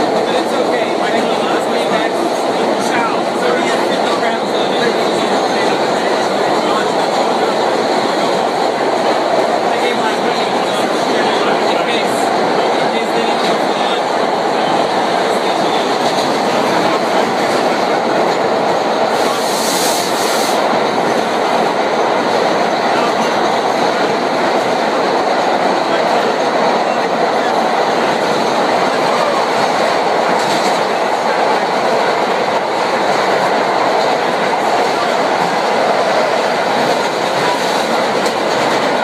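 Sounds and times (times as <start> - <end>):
subway car wheels rumbling: 0.0 - 39.0.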